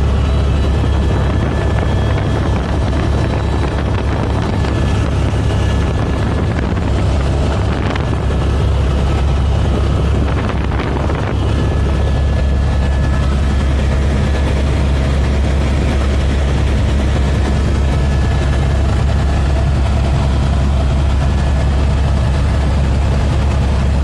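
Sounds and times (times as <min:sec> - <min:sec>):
helicopter rotor and engine drone: 0:00.0 - 0:24.0.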